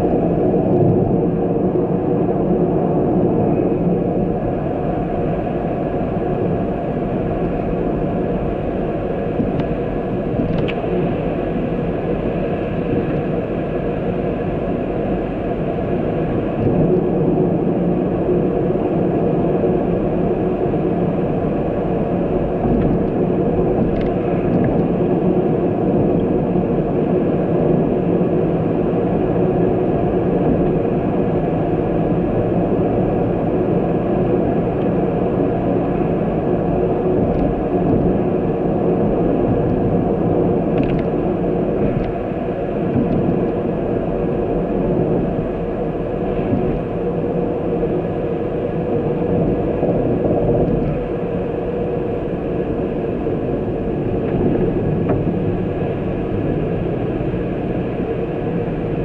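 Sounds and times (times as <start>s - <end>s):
road noise: 0.0s - 59.0s
vehicle engine drone: 0.0s - 59.0s.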